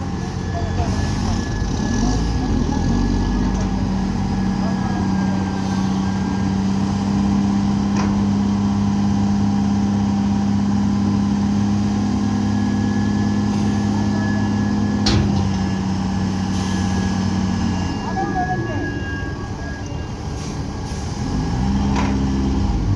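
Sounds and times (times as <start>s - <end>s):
heavy diesel engine running: 0.0s - 22.9s.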